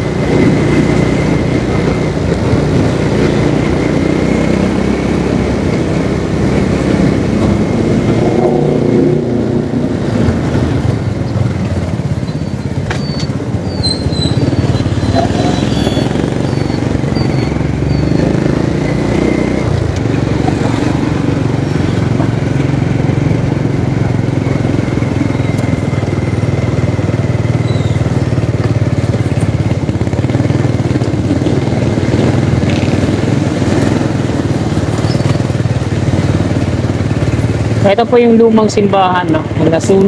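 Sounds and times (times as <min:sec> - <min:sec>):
road and traffic noise: 0:00.0 - 0:40.0
vehicle engine running: 0:00.0 - 0:40.0.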